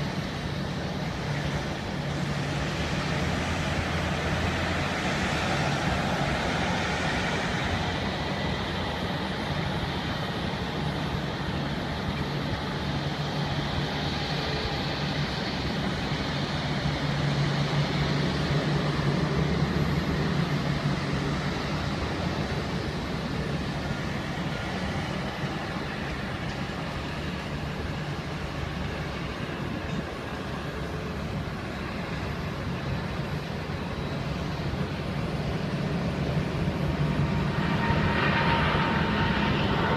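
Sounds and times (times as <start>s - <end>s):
jet airliner engine noise: 0.0s - 39.9s.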